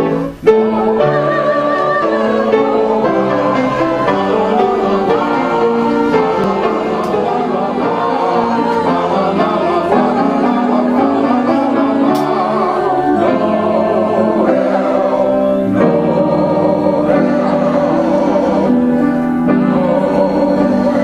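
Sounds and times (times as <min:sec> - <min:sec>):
church choir singing: 0:00.0 - 0:21.0.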